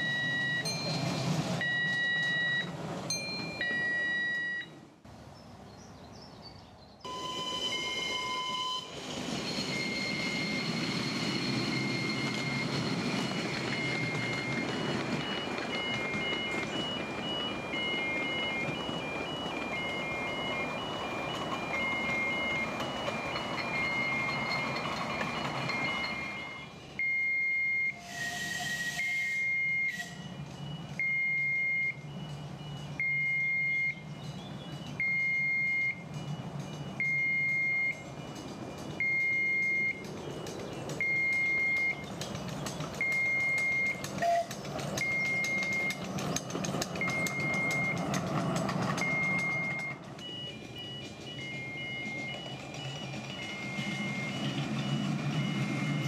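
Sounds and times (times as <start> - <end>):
electronic warning beeps: 0.0 - 0.7, 1.6 - 2.7, 3.5 - 4.7, 7.1 - 28.0, 28.6 - 42.2, 42.9 - 46.3, 46.9 - 48.2, 48.9 - 56.0.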